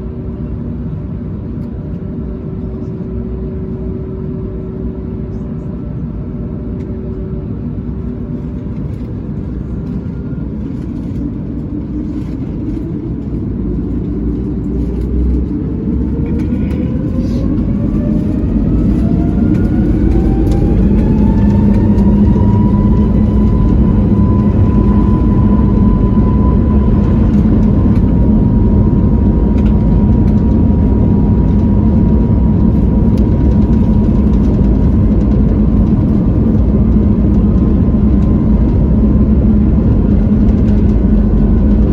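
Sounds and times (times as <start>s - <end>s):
jet engines whining: 0.0s - 41.9s
loud engine rumble: 0.0s - 41.9s.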